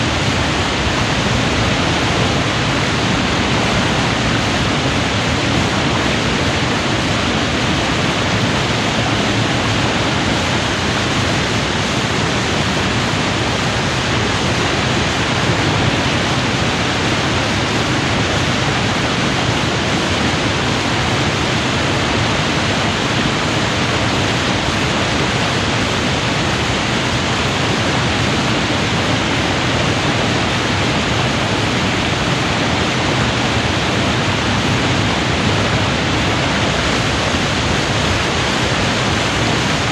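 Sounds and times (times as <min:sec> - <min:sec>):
river water pouring over a weir: 0:00.0 - 0:39.9.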